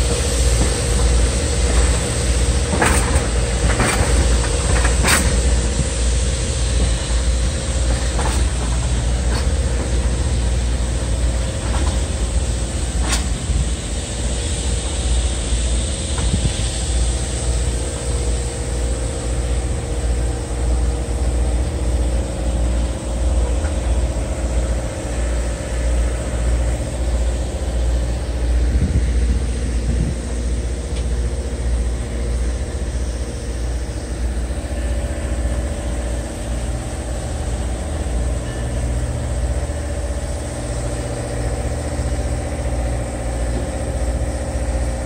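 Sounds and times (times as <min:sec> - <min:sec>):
diesel locomotive engine drone: 0:00.0 - 0:45.0.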